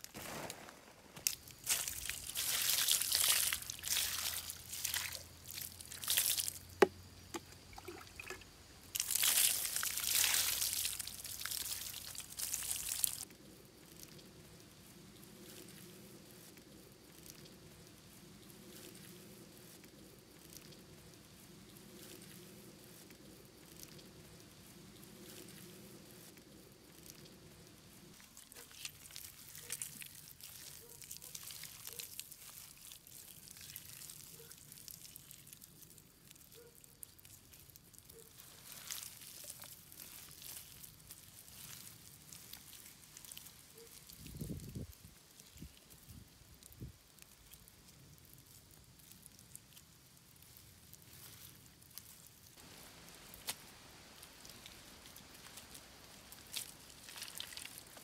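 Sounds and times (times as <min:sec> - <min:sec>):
small crackles: 0:00.0 - 0:07.7, 0:08.8 - 0:58.0
hands kneading wet clay: 0:01.2 - 0:14.3, 0:18.2 - 0:58.0.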